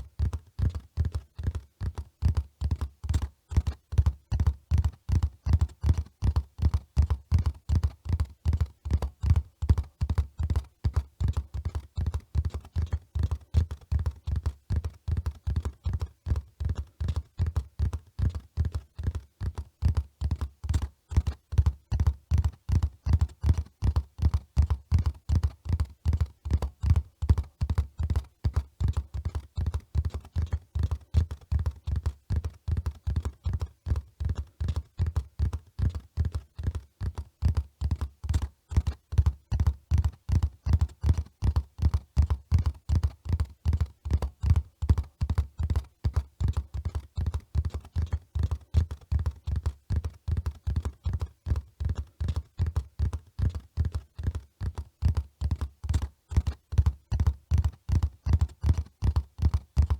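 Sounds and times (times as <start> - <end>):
running horse hoofbeats: 0.0 - 59.9.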